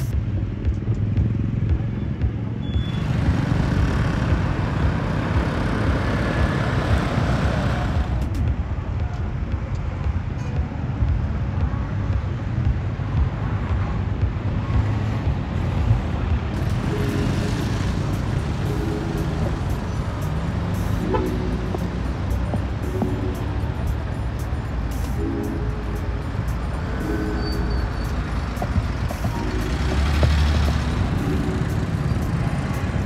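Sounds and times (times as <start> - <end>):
car and motorbike engines rumbling: 0.0 - 33.0.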